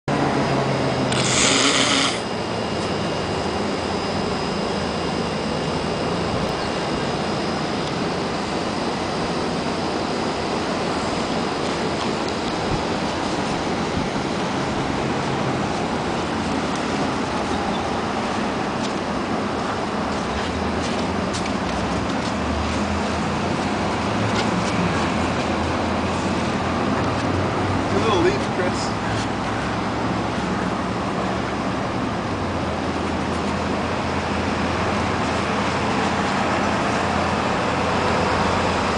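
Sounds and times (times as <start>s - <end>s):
road traffic: 0.0s - 38.9s
engine idling hum: 0.1s - 38.9s.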